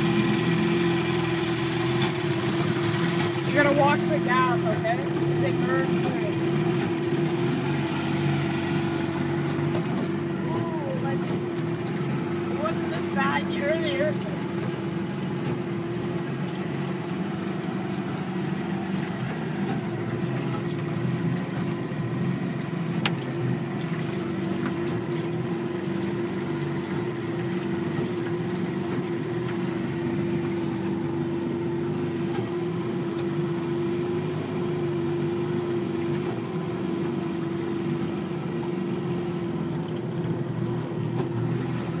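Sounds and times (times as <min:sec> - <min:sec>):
outboard motor humming: 0:00.0 - 0:42.0.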